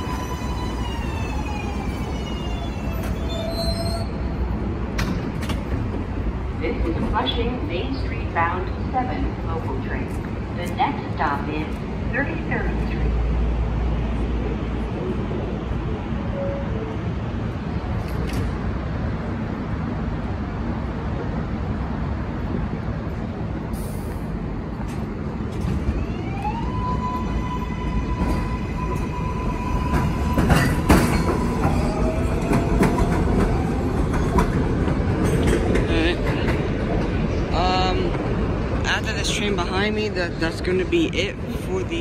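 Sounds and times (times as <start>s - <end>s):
train rumble: 0.0s - 42.0s.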